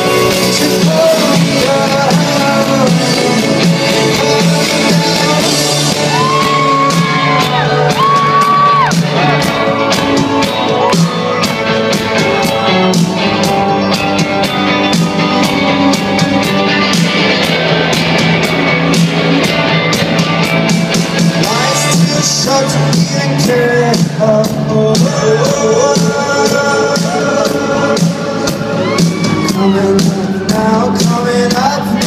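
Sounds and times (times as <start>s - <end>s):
drum beat: 0.0s - 32.0s
live rock band playing: 0.0s - 32.0s.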